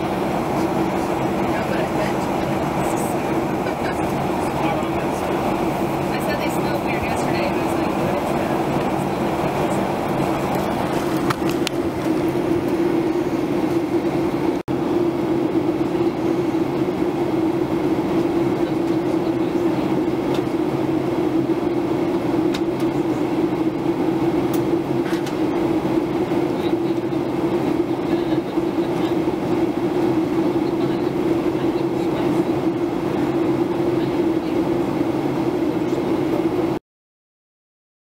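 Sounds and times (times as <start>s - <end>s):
low steady hum: 0.0s - 35.0s
jet engines and airflow drone: 0.0s - 36.8s.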